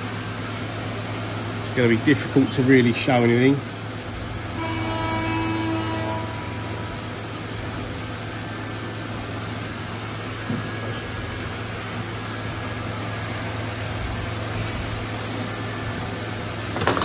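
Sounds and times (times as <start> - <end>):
coolant hissing: 0.0 - 17.0
milling machine spindle whine: 0.0 - 17.0.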